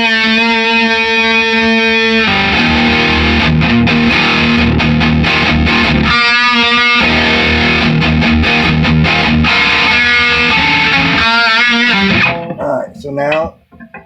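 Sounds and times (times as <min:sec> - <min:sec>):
distorted electric guitar riffing: 0:00.0 - 0:14.0.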